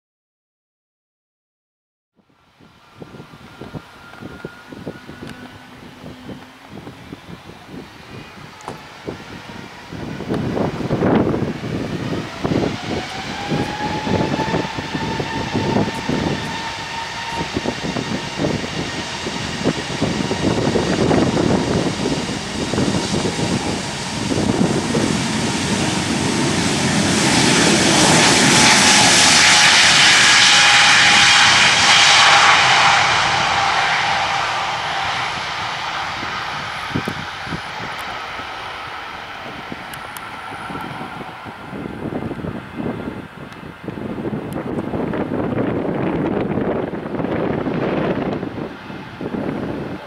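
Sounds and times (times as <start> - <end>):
rising engine whine: 2.2 - 50.0
jet engines spooling up: 2.6 - 50.0
loud hissing jet rush: 2.6 - 50.0.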